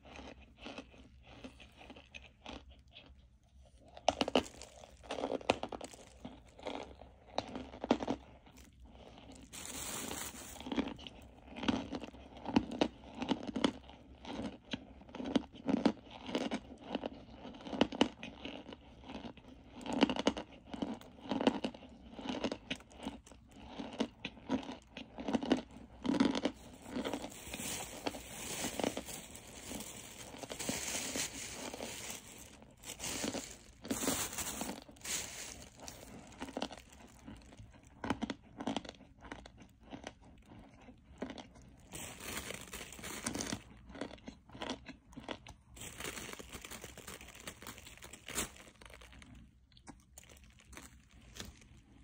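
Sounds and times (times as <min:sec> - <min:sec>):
crunchy chewing: 0:00.0 - 0:52.0.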